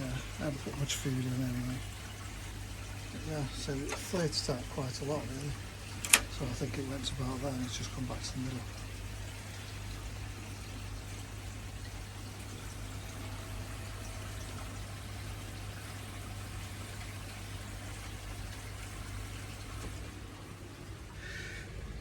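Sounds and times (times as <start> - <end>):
water pouring into pond: 0.0 - 22.0.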